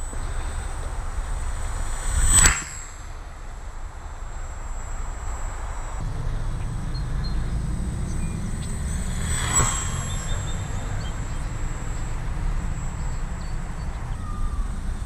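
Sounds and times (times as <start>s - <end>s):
low wind rumble on microphone: 0.0s - 15.0s
model plane electric motor and propeller: 0.0s - 15.0s.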